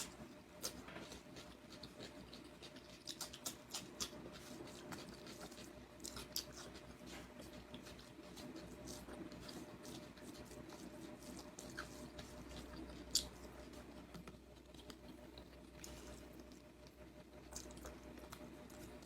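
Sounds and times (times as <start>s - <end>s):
chewing with wet clicks: 0.0s - 19.0s.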